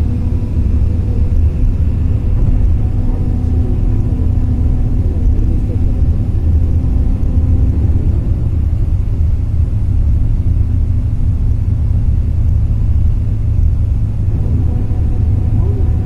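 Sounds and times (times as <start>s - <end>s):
vehicle road rumble inside cabin: 0.0s - 16.0s.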